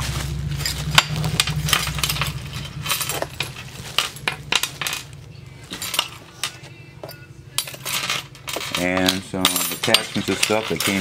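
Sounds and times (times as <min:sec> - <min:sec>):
metal parts clattering on glass: 0:00.6 - 0:11.0.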